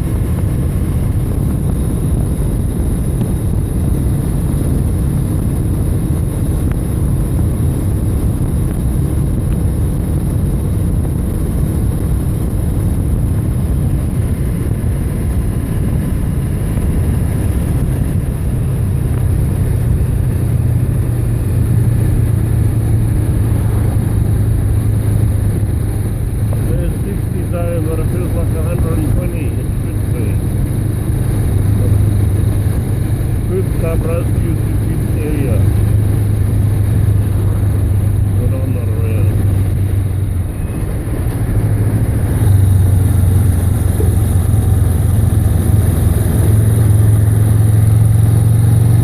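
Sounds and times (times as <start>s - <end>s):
motorcycle engine drone: 0.0s - 49.0s
wind rush on microphone: 0.0s - 49.0s.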